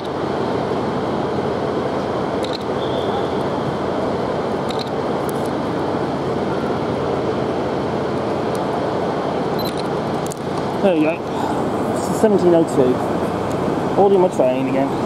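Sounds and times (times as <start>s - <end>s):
trains rumbling hum: 0.0s - 15.0s.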